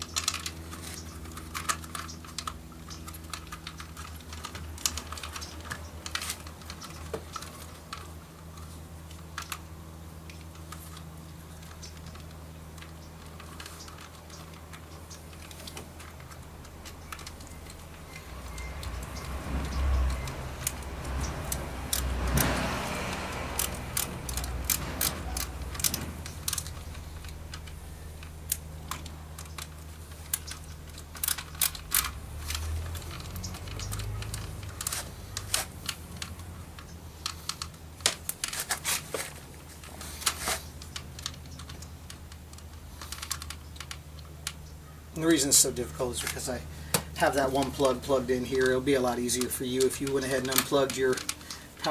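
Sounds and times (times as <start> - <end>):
rustling: 0.0 - 44.6
plastic parts being handled: 0.0 - 51.9.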